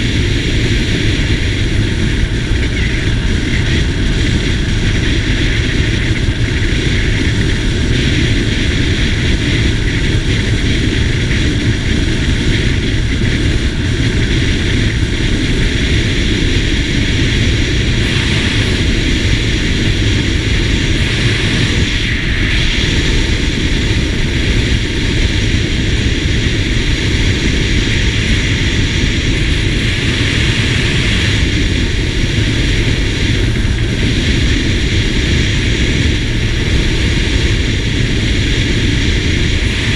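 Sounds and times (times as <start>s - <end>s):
scooter engine and tyre noise: 0.0s - 39.9s
wind roaring over microphone: 0.0s - 39.9s.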